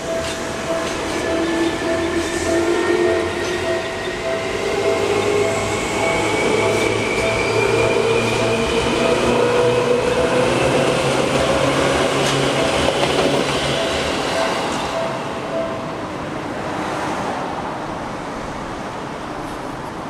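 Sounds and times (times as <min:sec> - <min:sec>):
level crossing warning bell: 0:00.0 - 0:16.2
wheels rumbling on rail: 0:00.0 - 0:20.0.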